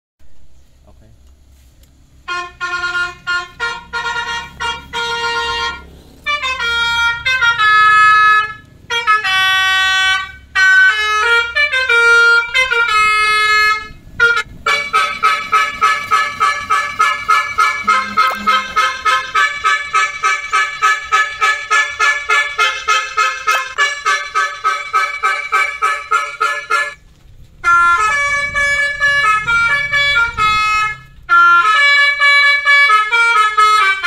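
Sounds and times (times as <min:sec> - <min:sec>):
musical truck horn melody: 0:02.1 - 0:34.0.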